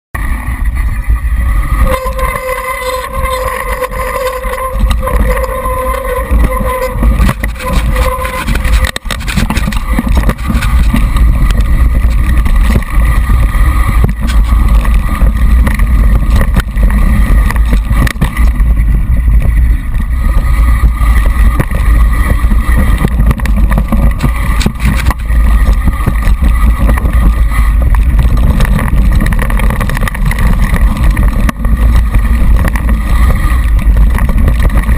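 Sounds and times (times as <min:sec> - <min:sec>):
bike clattering over rough ground: 0:00.2 - 0:34.9
steady buzzing tone: 0:00.2 - 0:34.9
wind and tyre rumble: 0:00.2 - 0:34.9.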